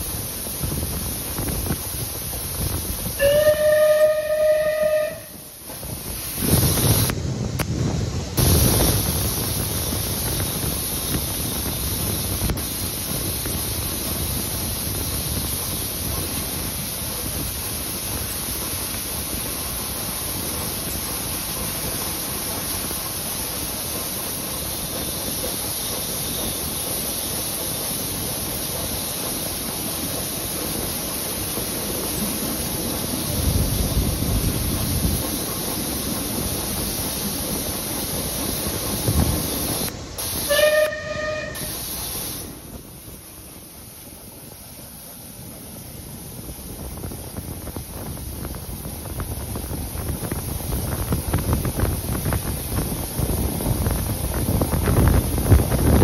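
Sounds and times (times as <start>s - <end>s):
steam train rumbling in tunnel: 0.0s - 56.0s
steady high hiss: 5.3s - 56.0s.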